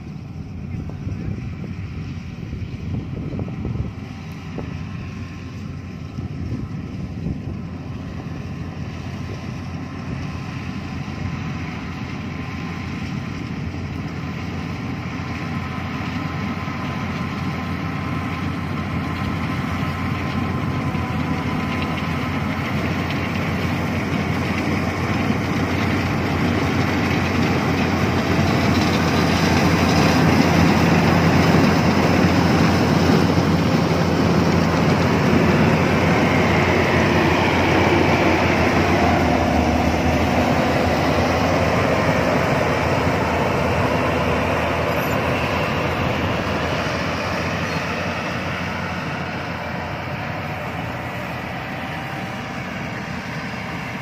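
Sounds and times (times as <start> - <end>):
combine harvester diesel engine: 0.0 - 54.0
threshing machinery running: 0.0 - 54.0.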